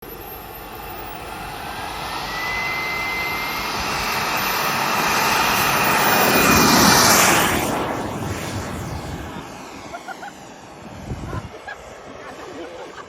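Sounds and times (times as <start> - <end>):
model jet turbine whine: 0.0 - 13.0.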